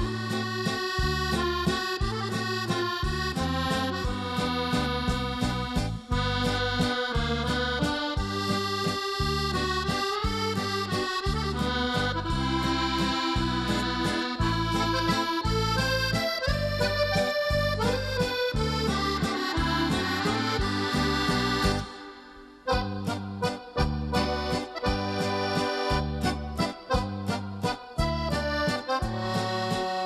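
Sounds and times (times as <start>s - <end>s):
accordion music: 0.0s - 30.0s.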